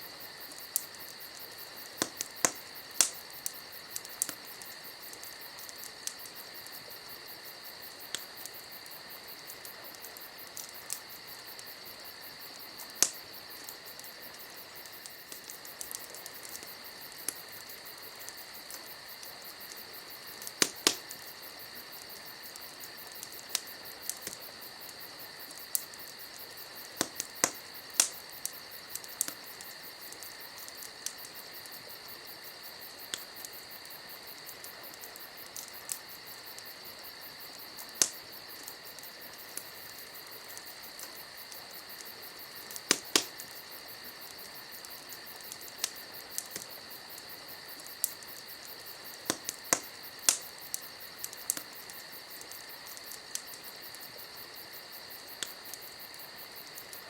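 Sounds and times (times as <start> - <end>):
campfire crackling and popping: 0.0 - 57.0
crickets chirring: 0.0 - 57.0.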